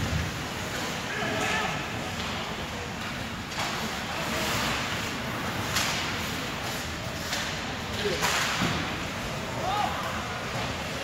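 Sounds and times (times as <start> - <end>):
indoor hall noise: 0.0 - 11.0
sharp knocks of hockey play: 1.4 - 10.9.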